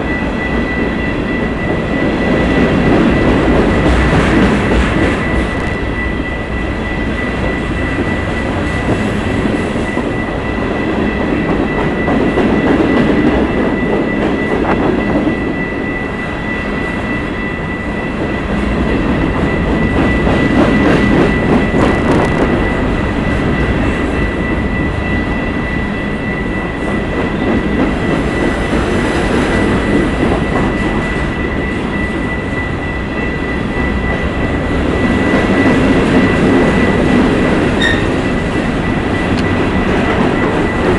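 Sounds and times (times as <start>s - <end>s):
freight train wheels rumbling: 0.0s - 40.9s
high-pitched whine: 0.0s - 40.9s.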